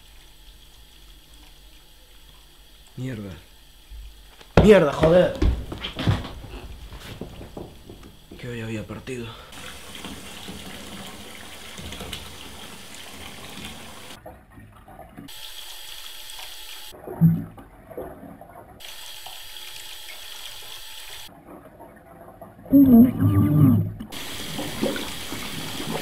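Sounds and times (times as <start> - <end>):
water running into a bathtub: 0.0 - 17.6, 18.2 - 21.3, 24.1 - 26.0.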